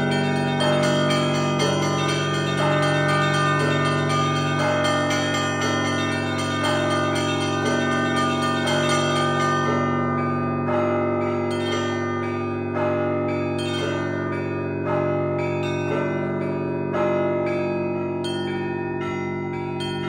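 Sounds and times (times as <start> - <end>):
deep church bells ringing: 0.0 - 20.0
small bells struck: 0.0 - 20.0.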